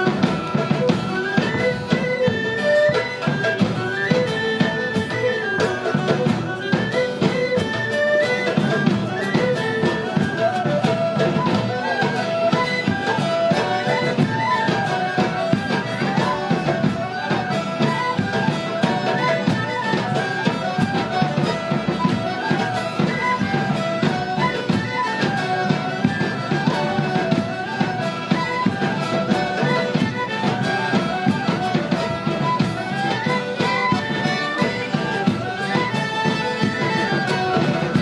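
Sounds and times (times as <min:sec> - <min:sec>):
folk band melody: 0:00.0 - 0:38.0
steady drum beat: 0:00.0 - 0:38.0.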